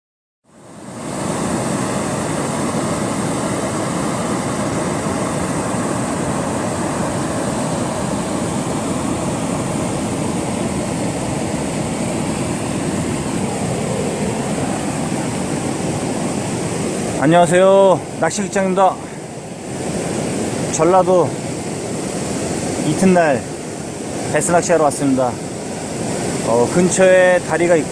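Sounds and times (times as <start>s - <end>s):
rushing outdoor noise: 0.5s - 27.9s.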